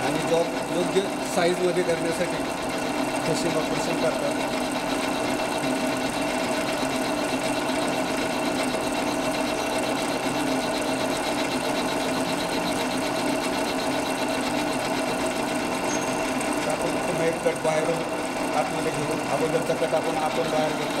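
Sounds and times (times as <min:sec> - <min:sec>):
lathe machine hum: 0:00.0 - 0:21.0.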